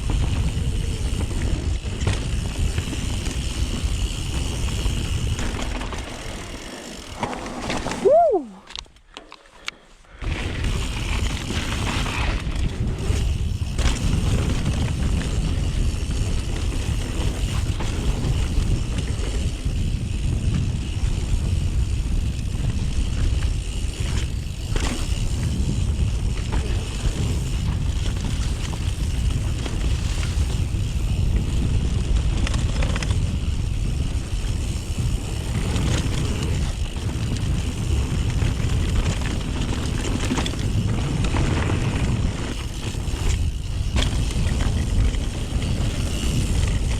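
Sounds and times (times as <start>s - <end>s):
wind buffeting microphone: 0.0s - 5.7s, 10.2s - 46.9s
mountain bike rumbling and rattling: 0.0s - 46.9s.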